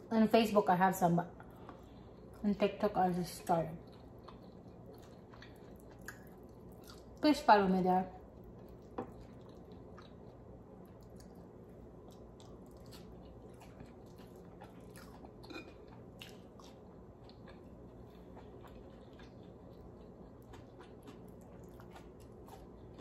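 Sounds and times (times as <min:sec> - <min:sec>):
low steady hum: 0:00.0 - 0:23.0
person chewing: 0:01.4 - 0:02.4, 0:03.8 - 0:07.2, 0:08.3 - 0:23.0.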